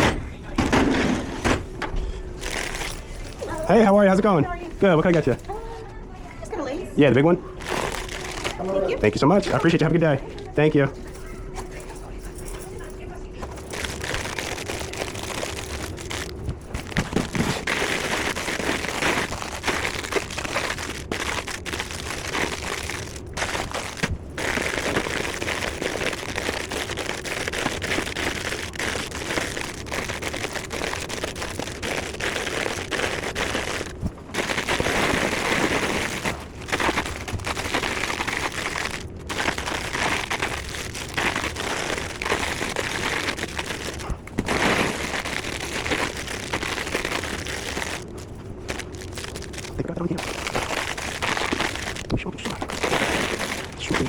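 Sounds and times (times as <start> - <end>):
plastic snack bags crinkling: 0.0 - 5.8, 7.0 - 54.0.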